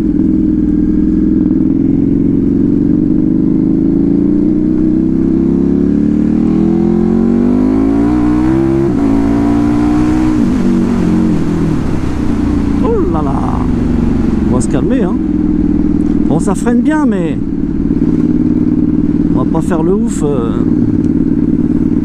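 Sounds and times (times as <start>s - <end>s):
motorcycle accelerating: 0.0s - 22.0s.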